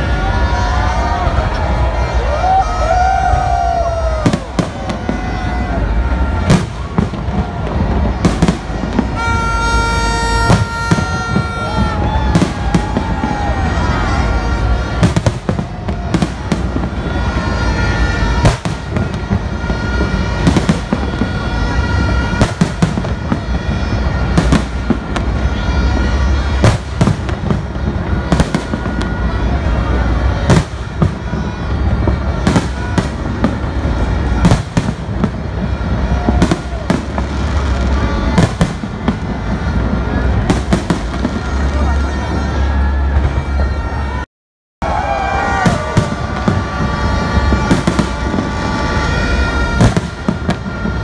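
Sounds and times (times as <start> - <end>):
low rumble of fireworks barrage: 0.0 - 44.2, 44.8 - 51.0.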